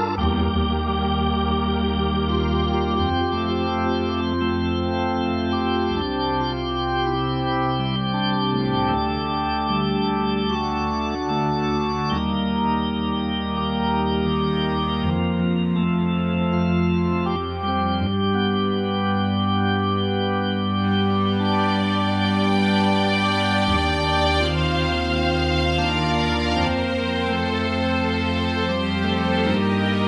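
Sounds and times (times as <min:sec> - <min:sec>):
organ chords: 0:00.0 - 0:30.0.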